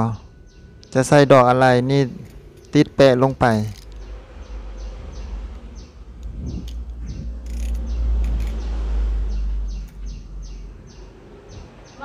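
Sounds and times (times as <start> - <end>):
low rumble: 0.0 - 12.0
small bird chirping: 2.0 - 12.0.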